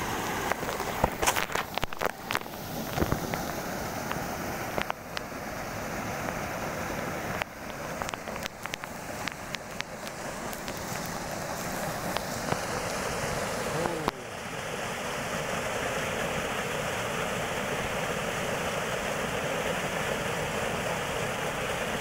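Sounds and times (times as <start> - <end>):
waterfall splashing into pool: 0.0 - 22.0.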